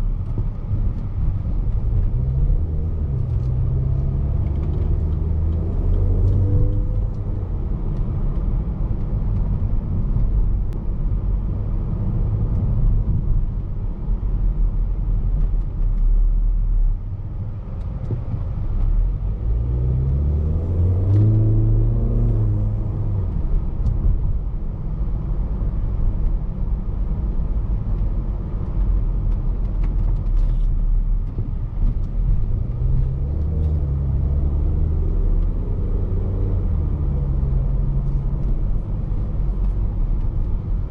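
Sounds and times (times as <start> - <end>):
car engine: 0.0 - 40.9.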